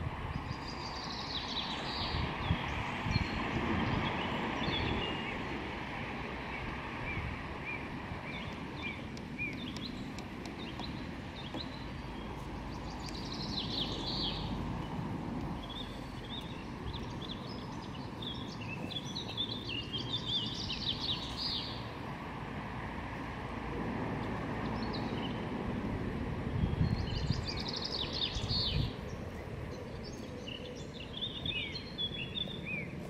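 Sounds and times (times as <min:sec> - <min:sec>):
low outdoor background noise: 0:00.0 - 0:33.0
small birds chirping and singing: 0:00.3 - 0:22.2, 0:24.3 - 0:25.6, 0:26.6 - 0:33.0.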